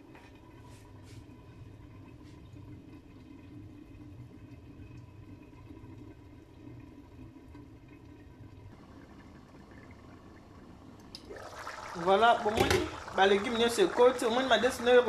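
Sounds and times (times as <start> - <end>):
beans simmering in pots: 0.0 - 15.0.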